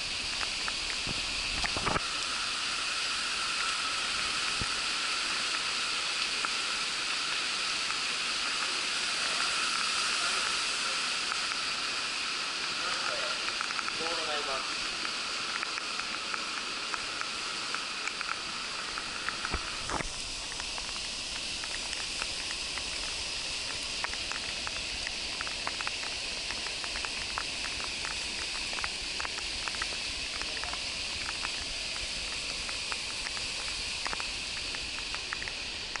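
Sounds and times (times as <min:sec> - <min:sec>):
rain hiss: 0:00.0 - 0:36.0
raindrops tapping on camera: 0:00.0 - 0:36.0.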